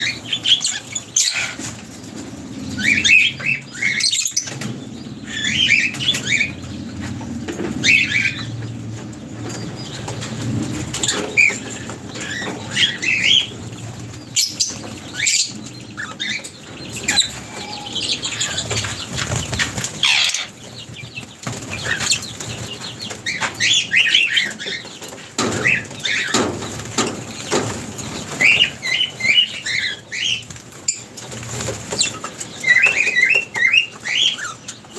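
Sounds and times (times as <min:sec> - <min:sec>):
wings flapping: 0:00.0 - 0:34.6
birds chirping: 0:00.0 - 0:34.9.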